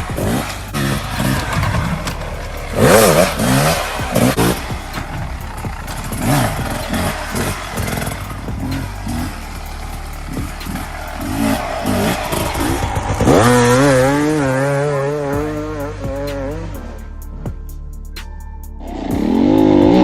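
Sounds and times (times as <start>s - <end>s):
off-road vehicle engine revving: 0.0s - 17.8s, 18.8s - 20.0s.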